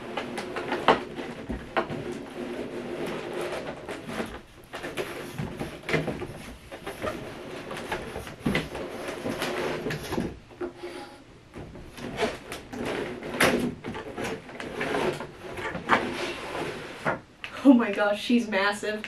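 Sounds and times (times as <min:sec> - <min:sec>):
plastic scraping against cardboard: 0:00.0 - 0:17.2.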